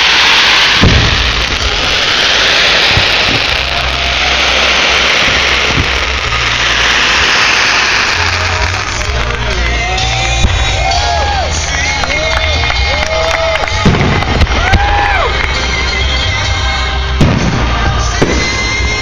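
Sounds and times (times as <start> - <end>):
fireworks bangs: 0.0 - 19.0
fireworks crackling: 0.0 - 19.0
low rumble: 0.0 - 19.0.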